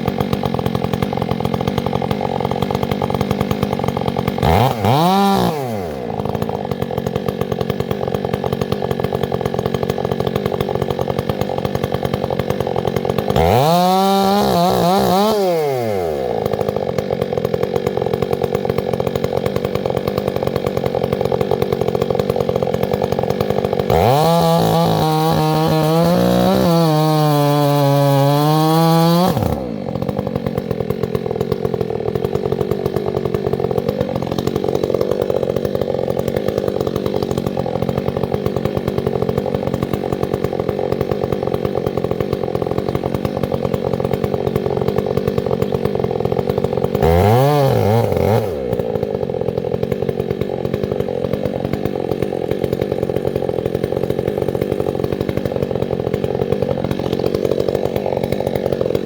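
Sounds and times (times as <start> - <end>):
chainsaw engine revving and idling: 0.0 - 59.0.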